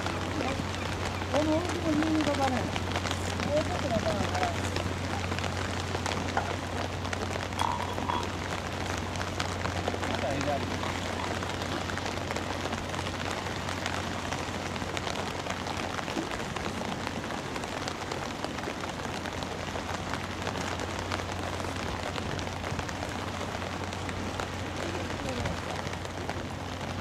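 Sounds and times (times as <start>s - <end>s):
low steady hum: 0.0s - 27.0s
rain falling on the sea: 0.0s - 27.0s.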